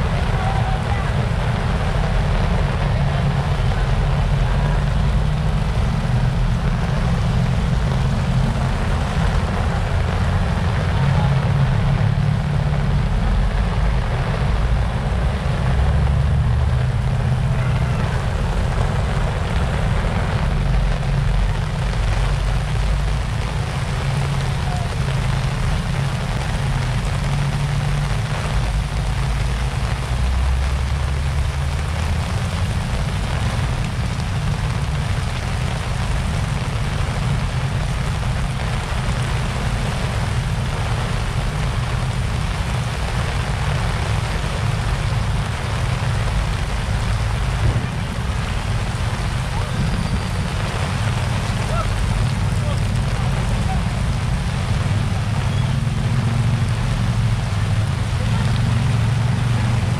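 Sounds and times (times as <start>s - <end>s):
heavy rain pouring: 0.0s - 59.9s
low rumble: 0.0s - 59.9s.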